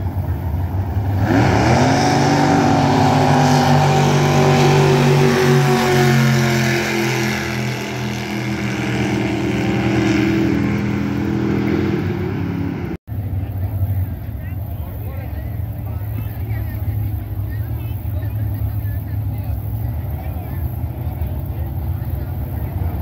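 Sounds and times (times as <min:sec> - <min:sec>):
jet boat engine revving: 0:00.0 - 0:23.0.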